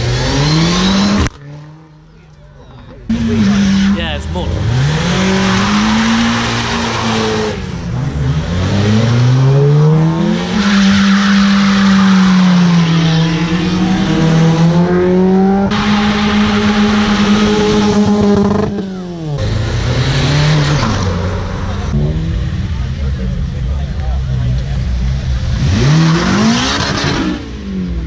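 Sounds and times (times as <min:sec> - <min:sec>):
tyres on tarmac: 0:00.0 - 0:28.0
cars accelerating past: 0:03.1 - 0:28.0.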